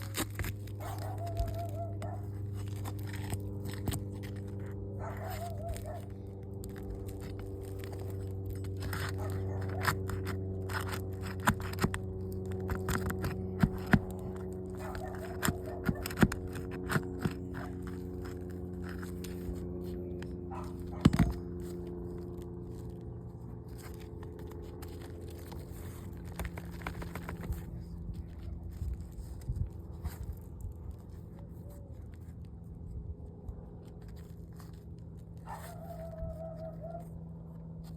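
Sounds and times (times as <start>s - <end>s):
roof shingles scraping and cracking: 0.0s - 32.4s
steady low hum: 0.0s - 37.9s.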